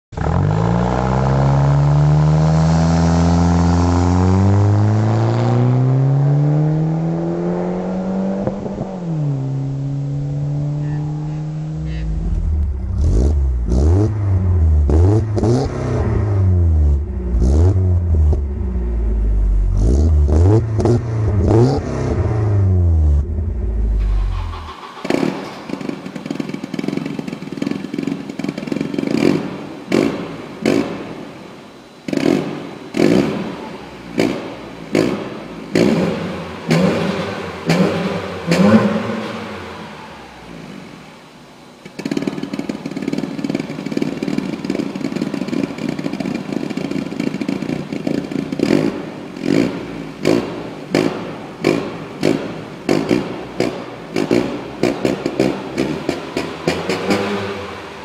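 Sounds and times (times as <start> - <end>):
car exhaust revving: 0.1 - 31.2, 32.1 - 41.1, 42.0 - 58.0
turbocharged car accelerating hard: 0.2 - 27.1, 32.1 - 41.0, 44.2 - 58.0.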